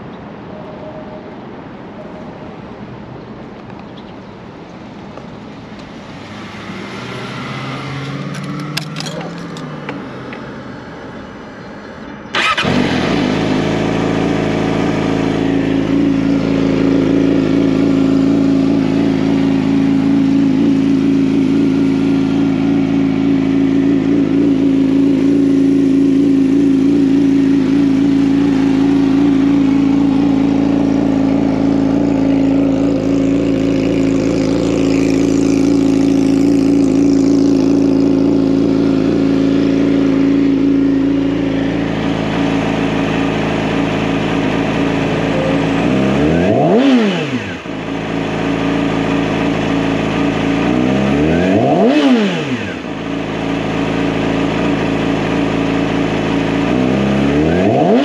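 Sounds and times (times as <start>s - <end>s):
motorcycle engine revving: 6.0s - 10.7s, 12.3s - 58.0s
motorcycle engine idling: 8.3s - 52.0s, 52.6s - 57.5s.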